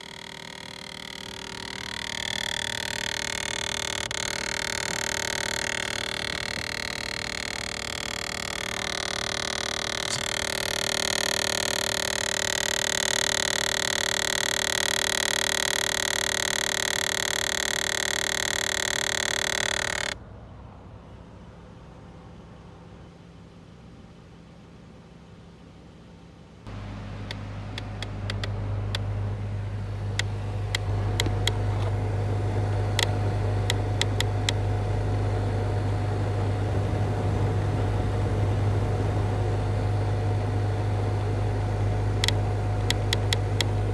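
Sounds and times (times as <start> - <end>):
buzzing rattle behind dashboard: 0.0 - 20.2, 26.7 - 43.9.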